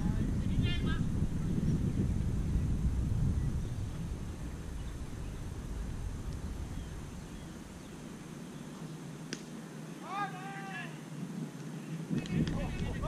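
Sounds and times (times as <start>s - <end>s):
wind buffeting microphone: 0.0s - 9.3s, 11.2s - 13.0s.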